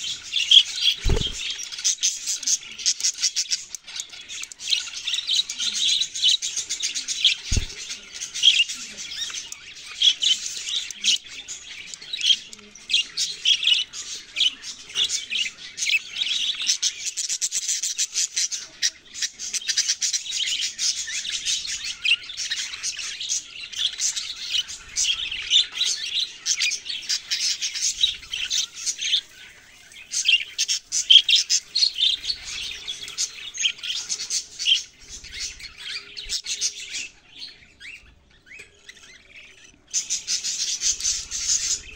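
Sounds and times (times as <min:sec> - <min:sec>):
nestlings chirping: 0:00.0 - 0:17.2, 0:18.6 - 0:41.9.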